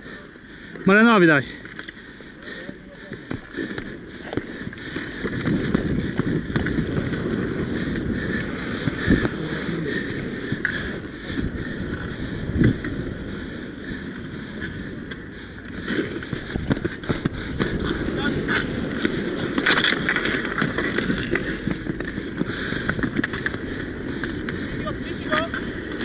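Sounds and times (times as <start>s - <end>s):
skate wheels rolling on court: 0.1s - 26.0s.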